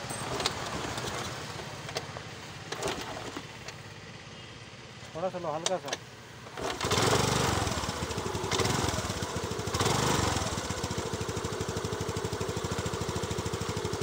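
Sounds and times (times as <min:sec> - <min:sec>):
scooter engine revving and idling: 0:00.0 - 0:05.0, 0:05.6 - 0:14.0.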